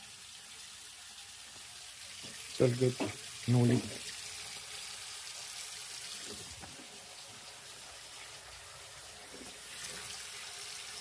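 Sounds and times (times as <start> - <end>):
water running from faucet: 0.0 - 11.0.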